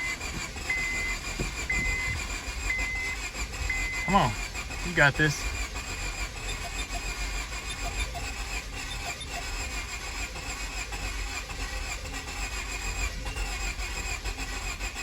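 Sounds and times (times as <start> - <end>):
starter cranking engine: 0.0 - 15.0.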